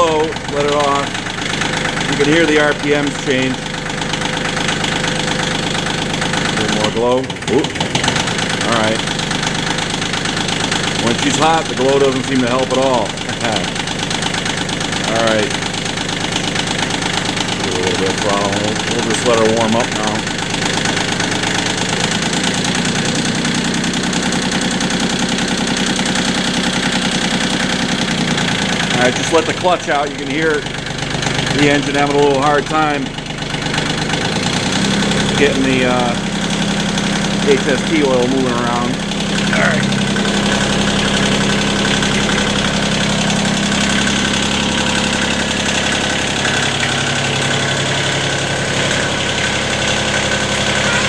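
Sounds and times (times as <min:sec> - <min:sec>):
tractor diesel engine idling: 0:00.0 - 0:51.0.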